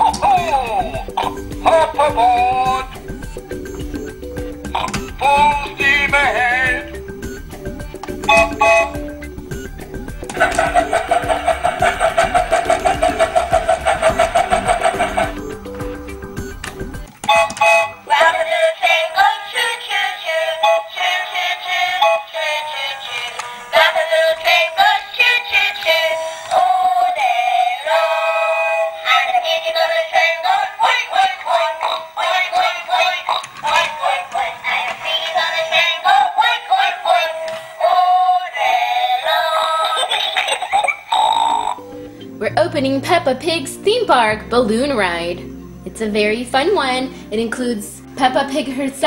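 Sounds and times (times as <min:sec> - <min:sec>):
tinny synthetic sung music: 0:00.0 - 0:46.8.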